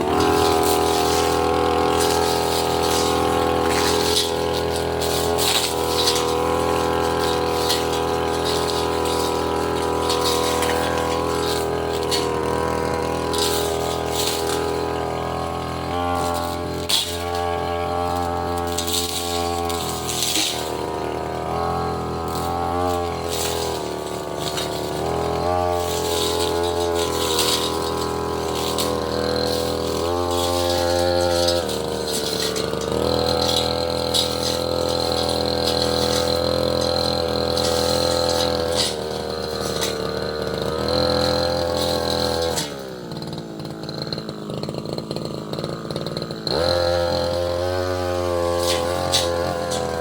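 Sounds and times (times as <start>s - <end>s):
brush cutter engine revving: 0.0s - 50.0s.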